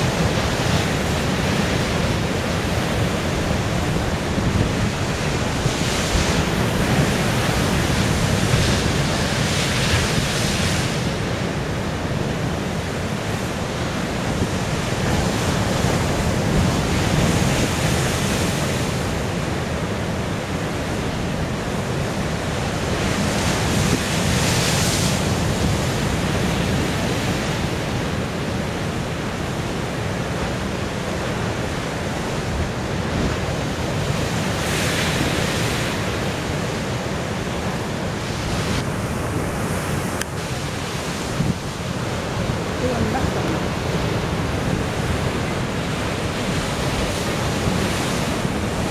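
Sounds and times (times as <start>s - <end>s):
surf crashing against rocks: 0.0s - 48.9s
wind rumble on microphone: 0.0s - 48.9s.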